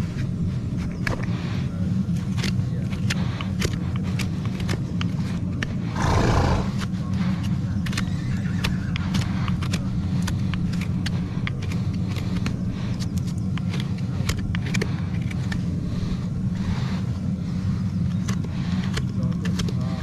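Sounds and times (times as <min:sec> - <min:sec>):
gas forge burner rumbling: 0:00.0 - 0:20.0.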